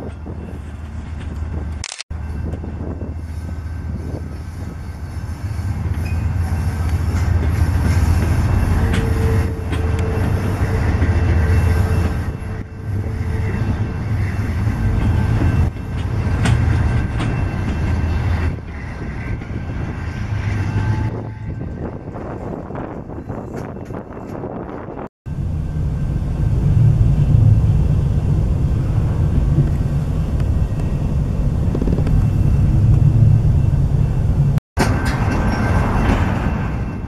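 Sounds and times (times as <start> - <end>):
diesel locomotive rumble: 0.0 - 37.0.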